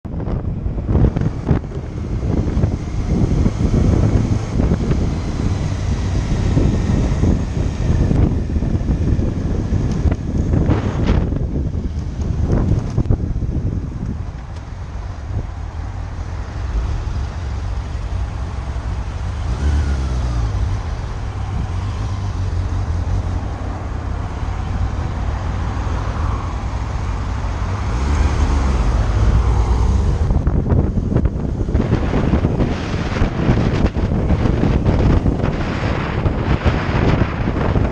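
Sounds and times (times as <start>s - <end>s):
wind noise on microphone: 0.0s - 37.9s
motorcycle engine: 0.1s - 37.9s.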